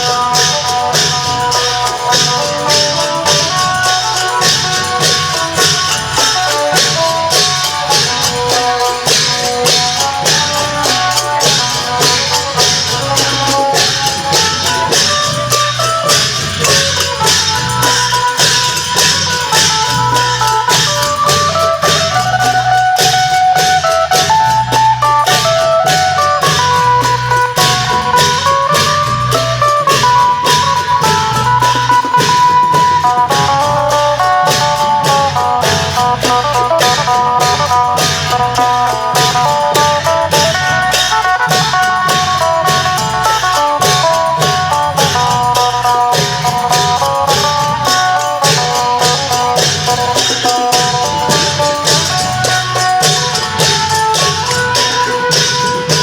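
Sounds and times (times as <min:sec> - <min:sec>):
long drums beating: 0:00.0 - 0:56.0
plucked lute melody: 0:00.0 - 0:56.0
small cymbals: 0:00.0 - 0:56.0.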